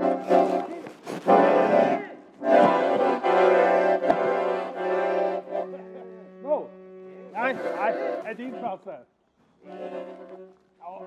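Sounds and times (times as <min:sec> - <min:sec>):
accordion chords: 0:00.0 - 0:11.0.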